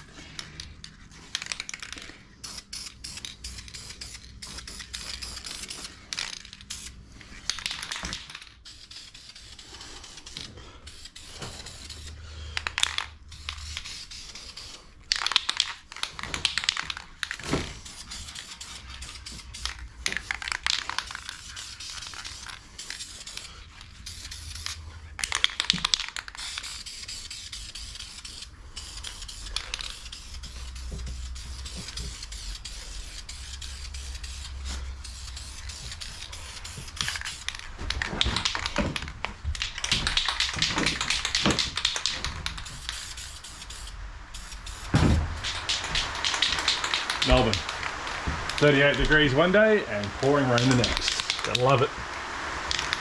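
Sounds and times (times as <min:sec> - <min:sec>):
aerosol can spraying: 0:02.4 - 0:12.2, 0:12.8 - 0:15.8, 0:16.4 - 0:49.4, 0:50.2 - 0:53.0.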